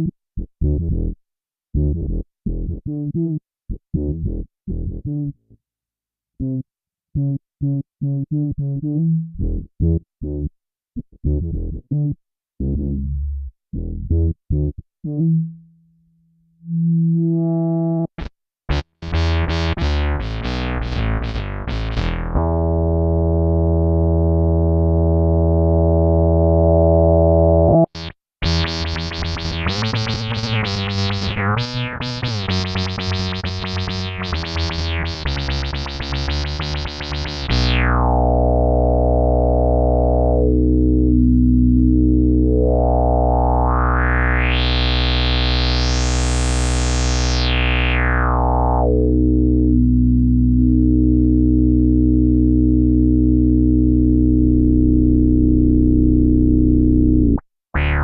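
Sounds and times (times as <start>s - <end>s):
synth bass notes: 0.0s - 5.6s, 6.4s - 15.8s, 16.6s - 58.0s.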